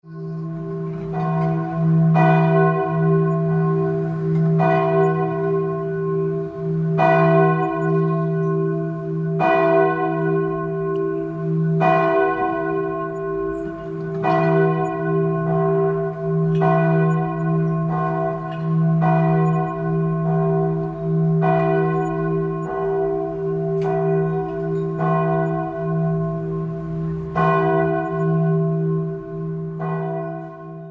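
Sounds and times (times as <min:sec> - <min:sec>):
church bell tolling: 0:00.0 - 0:30.9.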